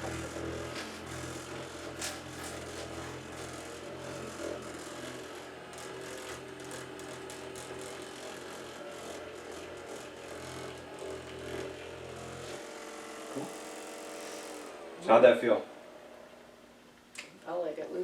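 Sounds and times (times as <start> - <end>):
massage gun motor humming: 0.0 - 18.0.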